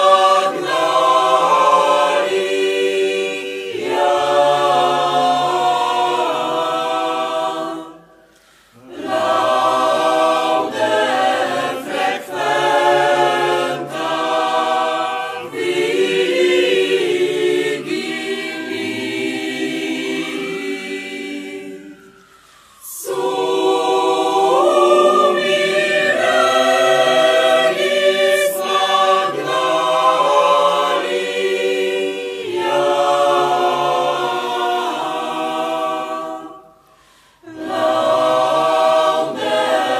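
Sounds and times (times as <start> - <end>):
mixed choir singing: 0.0 - 39.9.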